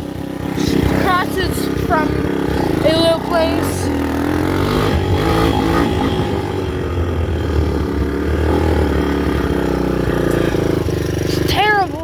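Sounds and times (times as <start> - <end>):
dirt bike engine at low speed: 0.0 - 12.0.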